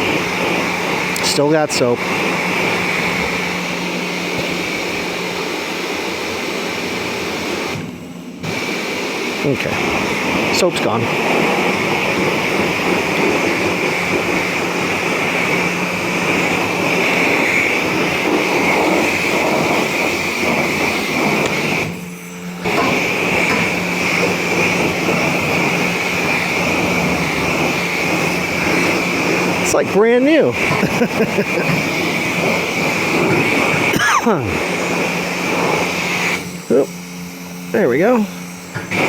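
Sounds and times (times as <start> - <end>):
machine hum: 0.0 - 39.0
pressure wand spraying water: 0.0 - 39.0.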